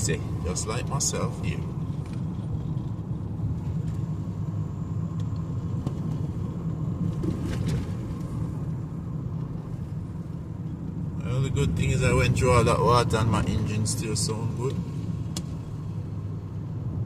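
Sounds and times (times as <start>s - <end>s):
car driving on wet road: 0.0s - 17.0s.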